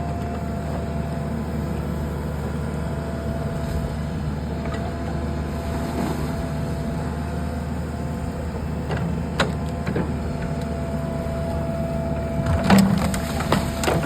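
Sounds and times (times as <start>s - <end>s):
backhoe engine whining: 0.0s - 14.0s.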